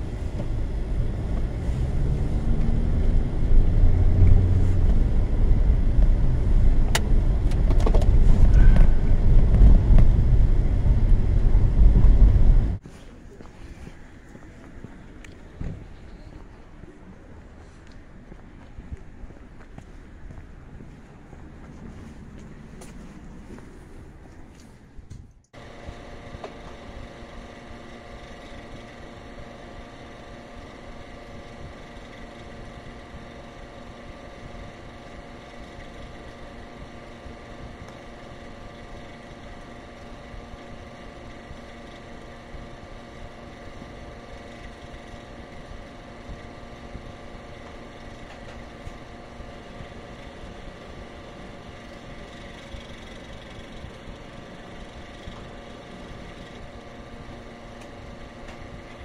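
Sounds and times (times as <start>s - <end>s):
engine hum: 0.0s - 59.0s.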